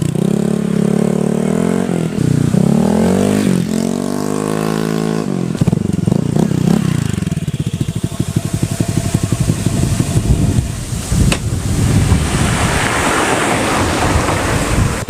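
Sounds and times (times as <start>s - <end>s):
scooter engine revving and idling: 0.0s - 15.0s.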